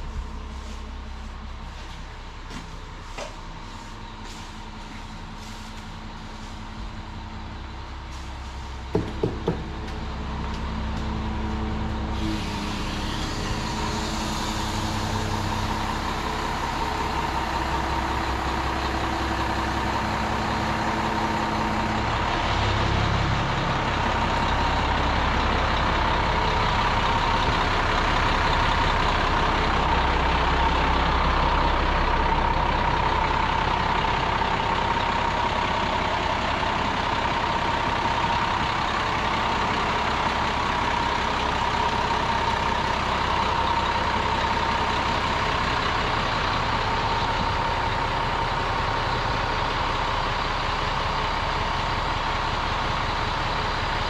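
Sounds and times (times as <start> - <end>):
mixer truck diesel engine rumble: 0.0 - 54.0
steady engine whine: 0.0 - 54.0.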